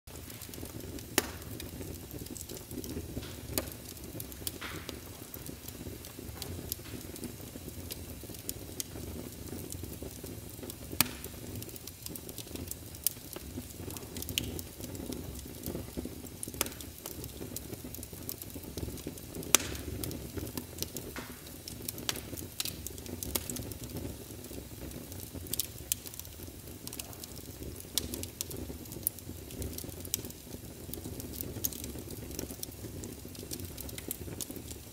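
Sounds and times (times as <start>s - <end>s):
wood fire crackling and popping: 0.1s - 34.9s.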